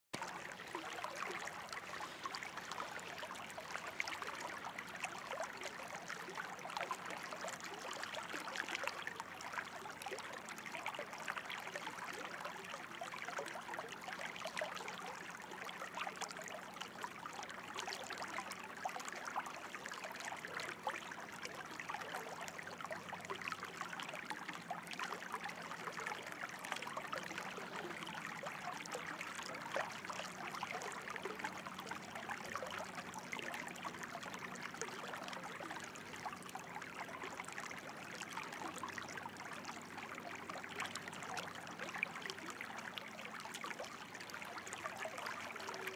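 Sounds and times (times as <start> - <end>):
water trickling and splashing: 0.2 - 45.9.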